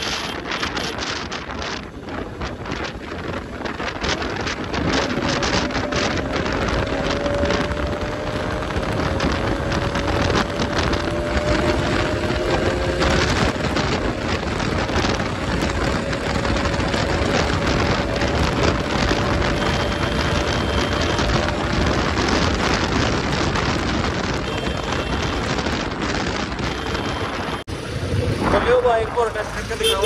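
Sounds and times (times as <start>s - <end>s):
wind buffeting microphone: 0.0s - 29.9s
motorcycle engine: 0.0s - 30.0s.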